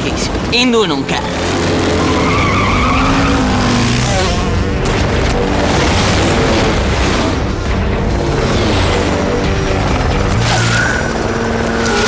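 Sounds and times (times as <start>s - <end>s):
background music: 0.0s - 12.0s
vehicle engines rumbling: 0.0s - 12.0s.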